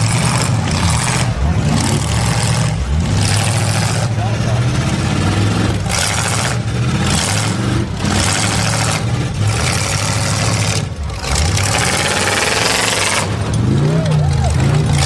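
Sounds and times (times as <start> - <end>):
car engines running hard: 0.0 - 15.0.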